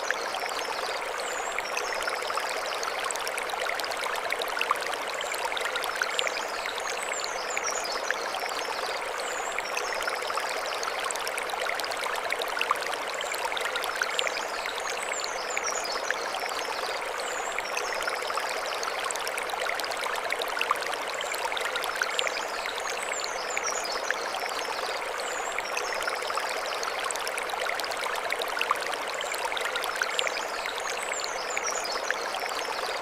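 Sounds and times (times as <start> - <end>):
stream running over stones: 0.0 - 33.0.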